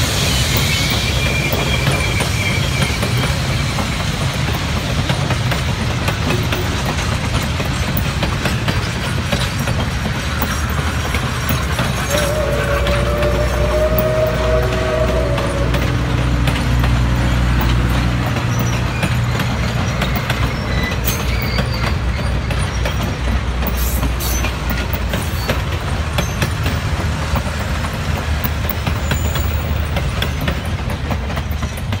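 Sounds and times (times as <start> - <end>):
train wheels rumbling on rails: 0.0 - 32.0
wheels clicking over rail joints: 0.5 - 32.0.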